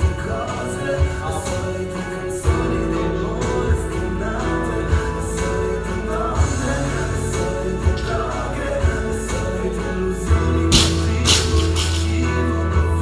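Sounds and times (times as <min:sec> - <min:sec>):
song with singing: 0:00.0 - 0:13.0.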